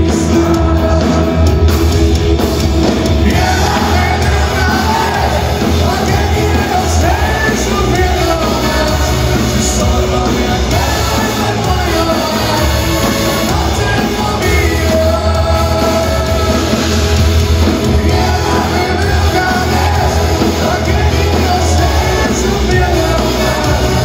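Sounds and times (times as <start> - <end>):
person singing: 0.0 - 1.8, 3.2 - 24.0
live rock band playing: 0.0 - 24.0.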